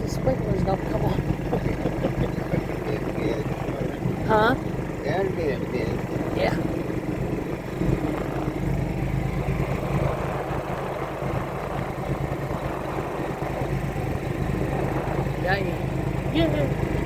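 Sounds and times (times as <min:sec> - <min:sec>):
golf cart motor droning: 0:00.0 - 0:17.0.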